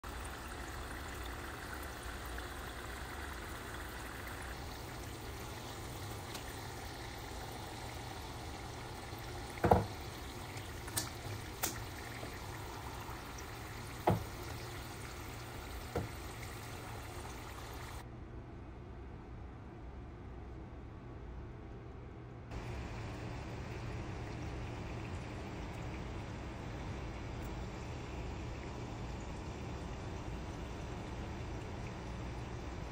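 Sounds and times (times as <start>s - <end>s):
food deep-frying in oil: 0.0s - 18.0s, 22.5s - 32.9s.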